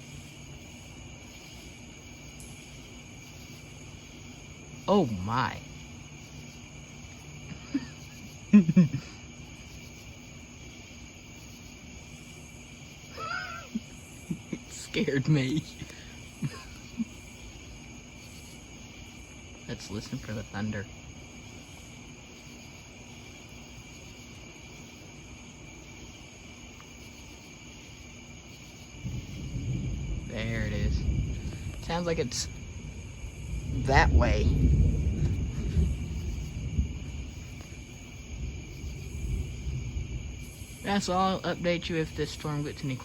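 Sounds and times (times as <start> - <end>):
night insects trilling: 0.0 - 43.0.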